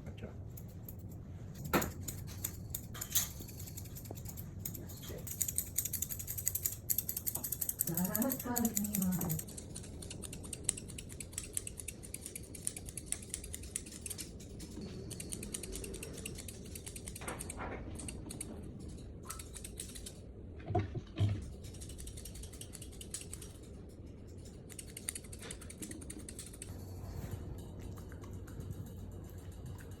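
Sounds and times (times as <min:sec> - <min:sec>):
scissors snipping fur: 0:00.5 - 0:18.5, 0:19.2 - 0:20.2, 0:21.4 - 0:26.7.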